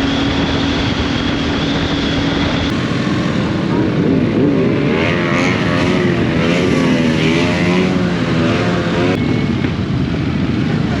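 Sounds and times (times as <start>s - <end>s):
motorcycle engine running: 0.0s - 11.0s
steady rush of noise: 0.0s - 11.0s.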